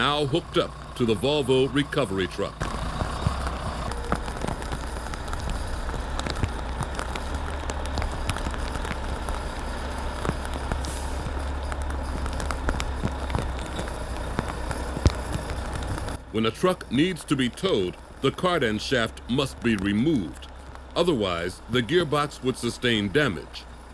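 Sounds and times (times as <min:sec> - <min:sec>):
diesel truck engine idling: 0:00.0 - 0:23.9.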